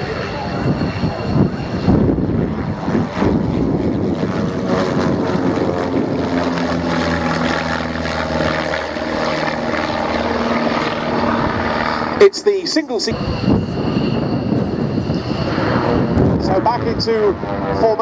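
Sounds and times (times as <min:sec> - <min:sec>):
propeller aircraft droning: 0:00.0 - 0:18.0.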